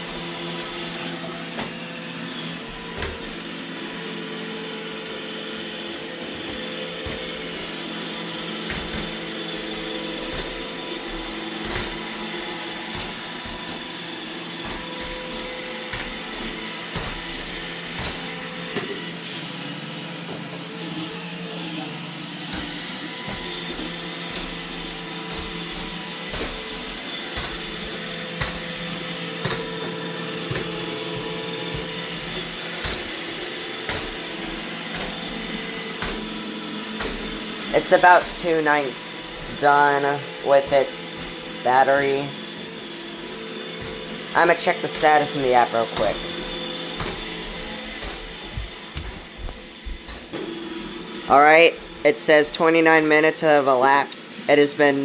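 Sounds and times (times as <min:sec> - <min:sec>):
robot vacuum whirring: 0:00.0 - 0:55.0.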